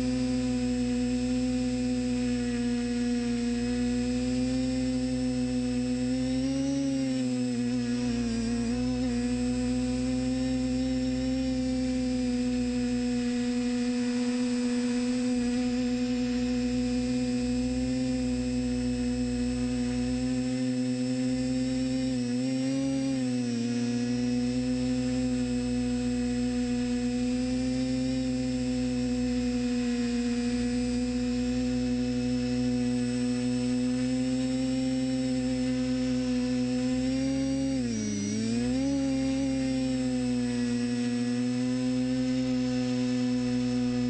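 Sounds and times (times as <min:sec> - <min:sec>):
drone propellers humming: 0:00.0 - 0:44.0.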